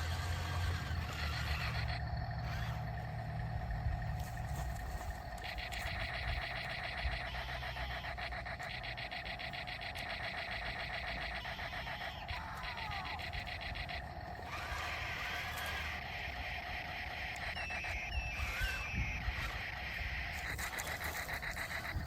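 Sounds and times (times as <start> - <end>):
toy tank motor whine: 0.0 - 22.0
toy tank rapid clicking: 0.0 - 22.0.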